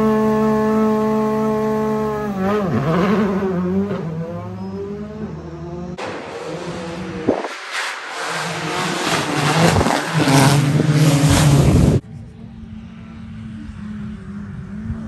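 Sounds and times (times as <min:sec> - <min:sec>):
distant rally car engine: 0:00.0 - 0:15.0
rally car at full throttle: 0:00.0 - 0:15.0.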